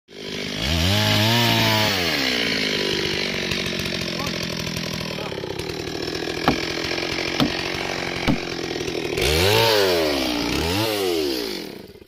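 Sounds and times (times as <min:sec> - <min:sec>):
chainsaw sawing wood: 0:00.1 - 0:12.0.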